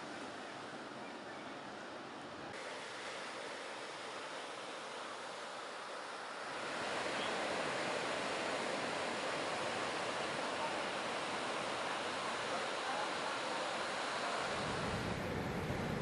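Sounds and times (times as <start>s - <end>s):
ocean surf breaking: 2.5s - 16.0s.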